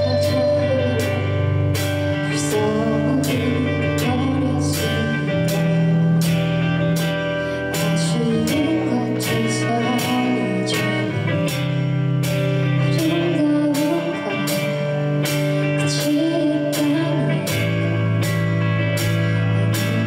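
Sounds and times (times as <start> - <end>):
woman singing: 0.0 - 11.9, 12.6 - 18.2, 19.1 - 20.0
bass guitar: 0.0 - 20.0
drums steady beat: 0.0 - 20.0
electric guitars: 0.0 - 20.0
keyboard: 0.0 - 20.0.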